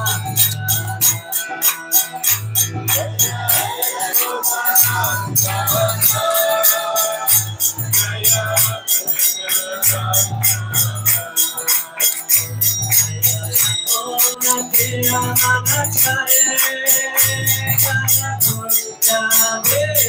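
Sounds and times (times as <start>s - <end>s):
hand claps: 0.0s - 20.0s
harmonium melody: 0.0s - 20.0s.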